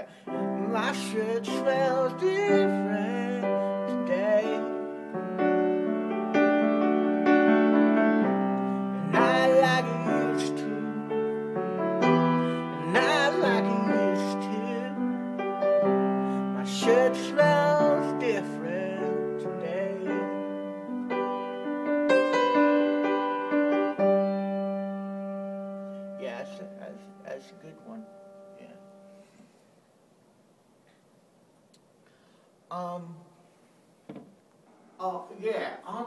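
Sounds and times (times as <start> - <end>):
piano playing slow chords: 0.0 - 29.2.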